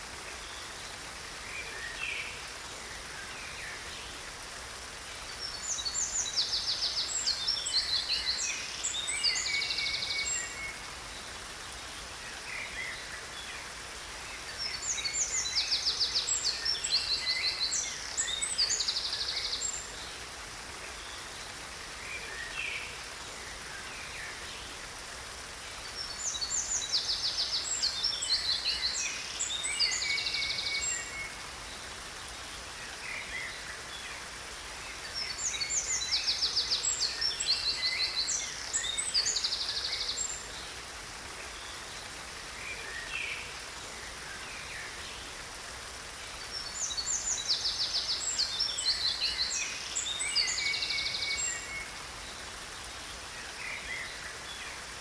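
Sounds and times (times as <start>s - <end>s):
songbird chirps and trills: 0.0s - 55.0s
waterfall rushing: 0.0s - 55.0s.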